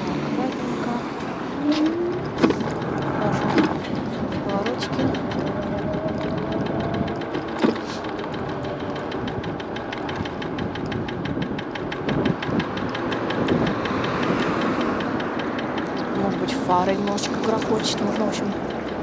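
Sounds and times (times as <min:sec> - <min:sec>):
electric scooter motor whine: 0:00.0 - 0:15.4
fast rattle-knock: 0:02.2 - 0:19.0.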